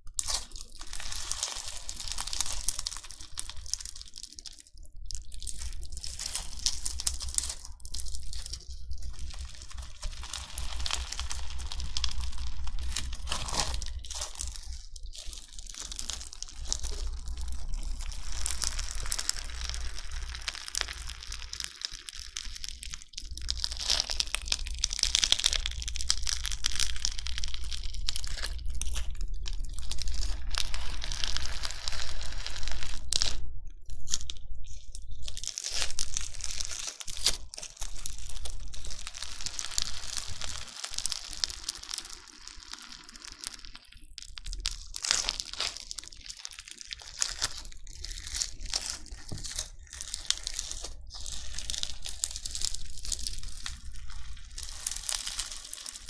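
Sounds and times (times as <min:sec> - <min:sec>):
slime beads crackling crunch: 0:00.0 - 0:56.0.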